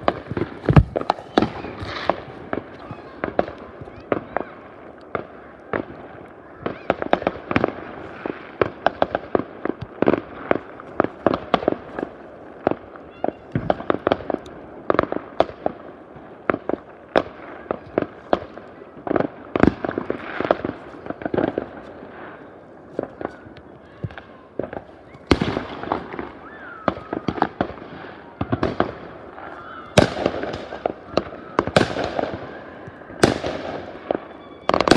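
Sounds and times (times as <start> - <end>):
distant explosions and crackle: 0.0 - 34.9
fireworks bangs and pops: 0.0 - 34.9.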